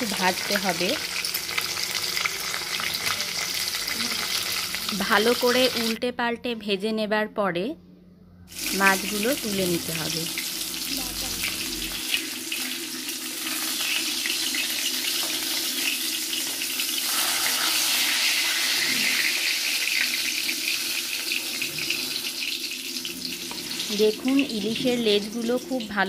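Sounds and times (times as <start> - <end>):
fish sizzling in hot oil: 0.0 - 6.0, 8.5 - 26.0.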